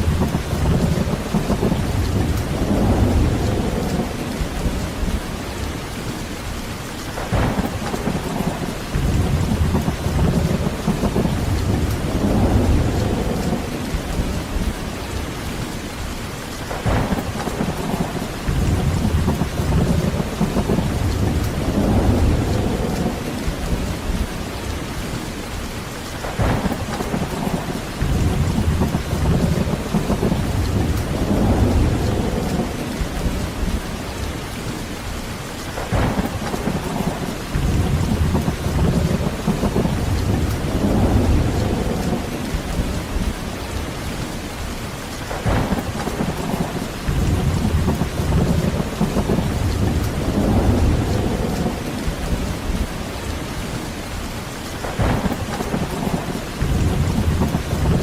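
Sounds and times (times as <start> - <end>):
rolling thunder: 0.0 - 5.7, 7.2 - 15.6, 16.6 - 25.4, 26.1 - 35.1, 35.7 - 44.6, 45.2 - 58.0
heavy rain: 0.0 - 58.0.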